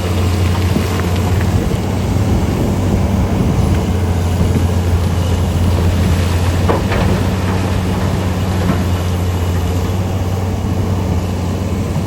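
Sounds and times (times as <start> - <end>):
heavy diesel engines droning: 0.0 - 12.0
wind on microphone: 0.0 - 12.0.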